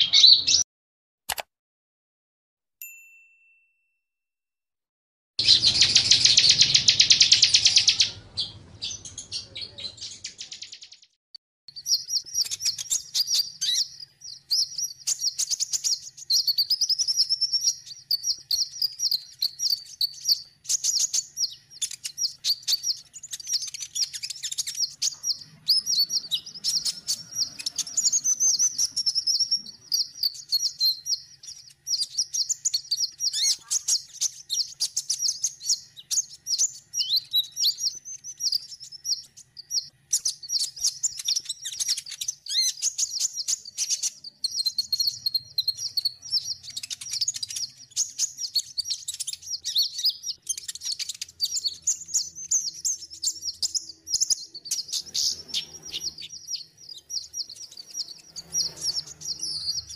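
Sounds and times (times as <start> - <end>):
bird twittering song: 0.0 - 0.6, 5.4 - 59.9.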